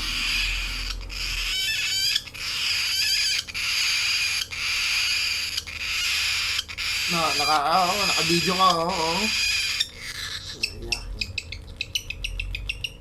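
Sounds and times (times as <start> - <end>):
bird chick raspy begging call: 0.0 - 13.0
bird chick rising squeaks: 0.0 - 13.0.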